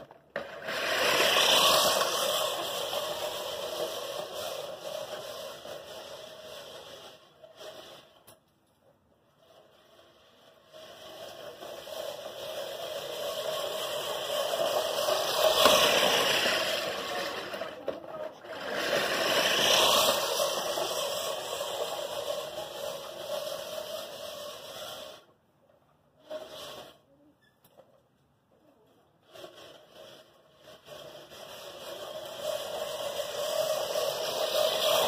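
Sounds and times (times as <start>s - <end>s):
reel mower whirring: 0.0s - 8.3s, 9.4s - 25.3s, 26.2s - 27.0s, 29.2s - 35.0s.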